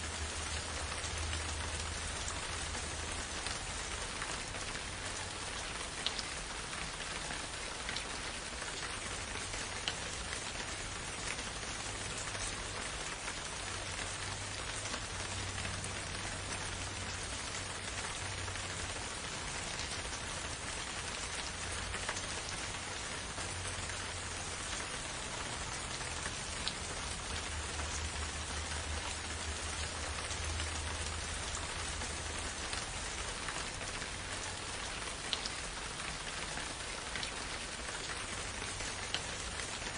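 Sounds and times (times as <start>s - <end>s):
raindrops ticking: 0.0s - 39.9s
steady rain hiss: 0.0s - 39.9s.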